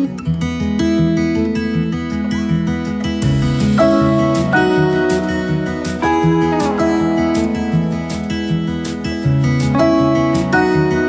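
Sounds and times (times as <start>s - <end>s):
acoustic guitar strumming and picking: 0.0s - 11.0s.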